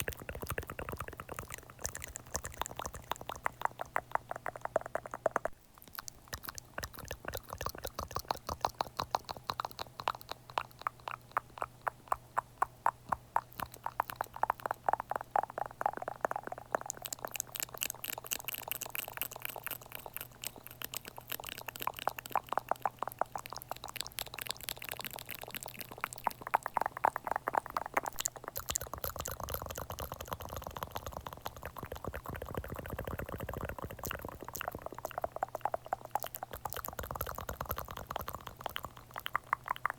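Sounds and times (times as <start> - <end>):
sticky wet clicks and smacks: 0.0 - 39.9.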